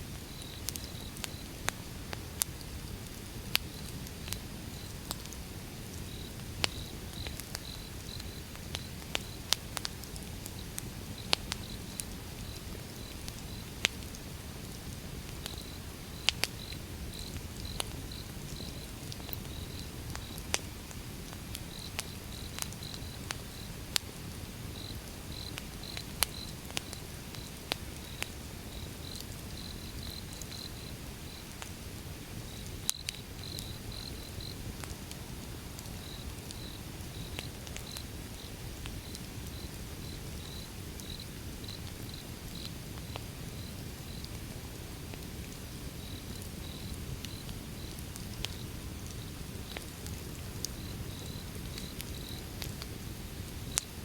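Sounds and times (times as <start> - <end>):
crackles and pops of burning logs: 0.0 - 54.0.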